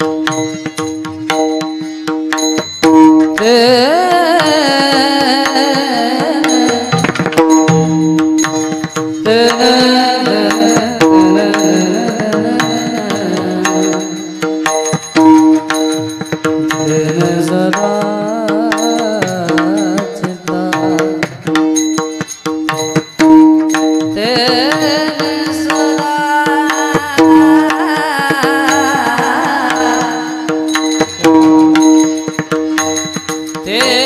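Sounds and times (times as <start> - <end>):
hand drum strokes: 0.0 - 34.0.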